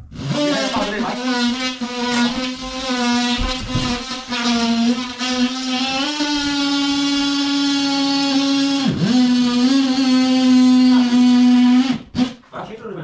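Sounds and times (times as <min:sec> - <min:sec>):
power tool motor whining: 0:00.1 - 0:12.4.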